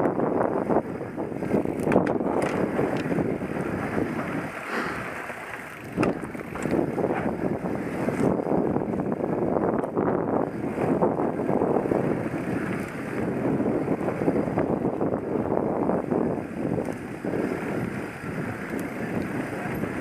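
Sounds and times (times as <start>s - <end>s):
bike clattering over bumps: 0.0s - 20.0s
tyres rolling over dirt: 0.0s - 20.0s
wind buffeting microphone: 0.0s - 20.0s.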